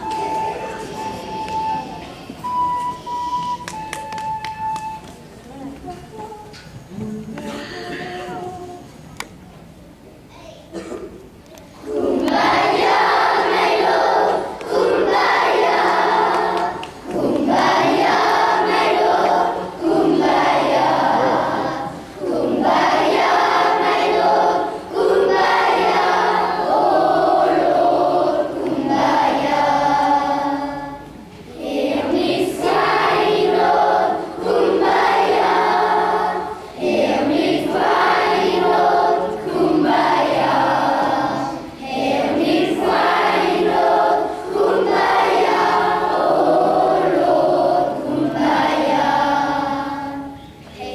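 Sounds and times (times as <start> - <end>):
children's choir singing: 0.0 - 9.1, 10.8 - 11.0, 11.6 - 50.9.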